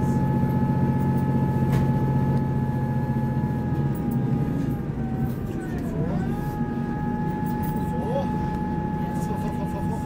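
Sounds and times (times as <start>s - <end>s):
train engine drone: 0.0s - 10.0s.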